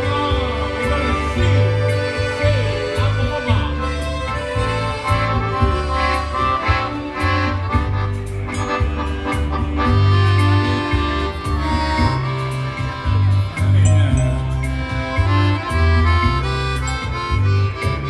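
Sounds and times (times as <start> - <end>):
accordions playing tune: 0.0 - 18.0
low bass notes: 0.0 - 18.0
polka band playing: 0.0 - 18.0.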